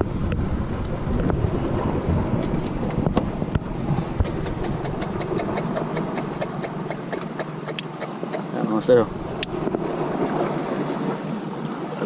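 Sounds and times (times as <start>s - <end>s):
wind buffeting microphone: 0.0s - 7.9s, 8.5s - 12.0s
surf washing: 0.0s - 12.0s.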